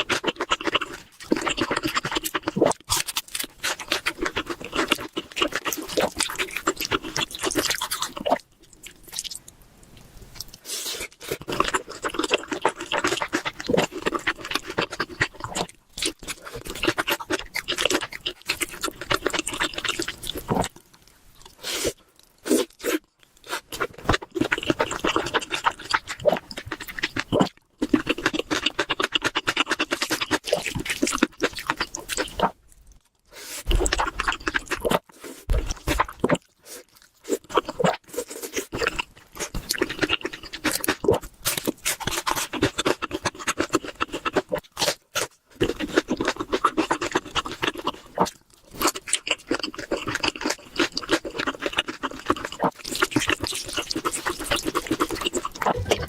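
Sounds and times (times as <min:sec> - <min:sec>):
crackly chewing and crunching: 0:00.0 - 0:56.0.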